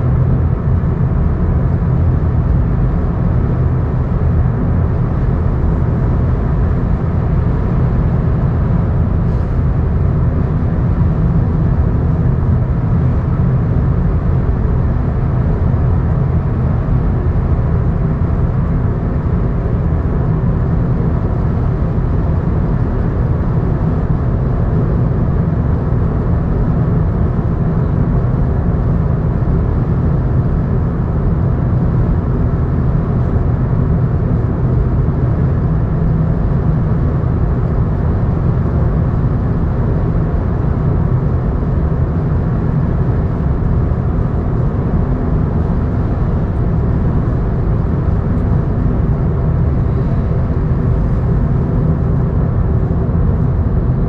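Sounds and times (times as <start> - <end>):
vehicle rumbling on road: 0.0 - 54.0.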